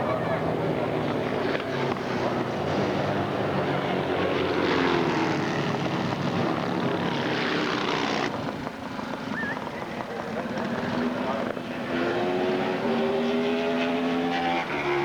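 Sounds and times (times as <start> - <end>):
racing motorcycle engines passing: 0.0 - 15.0.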